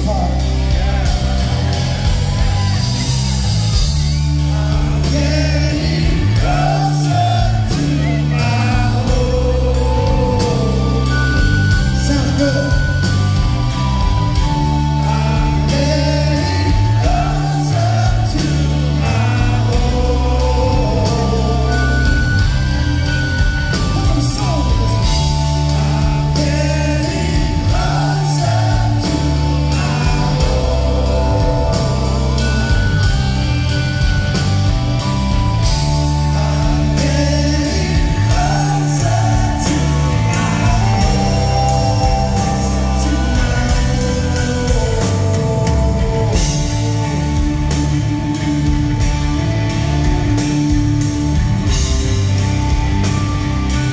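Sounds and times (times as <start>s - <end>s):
man singing lead vocal: 0.0s - 34.1s, 35.4s - 48.8s
live rock band playing: 0.0s - 53.9s.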